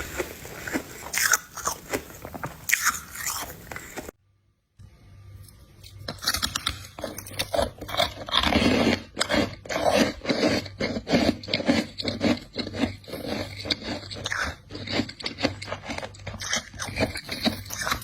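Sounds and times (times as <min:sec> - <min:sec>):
ice being chewed: 0:00.0 - 0:04.2, 0:05.8 - 0:18.0.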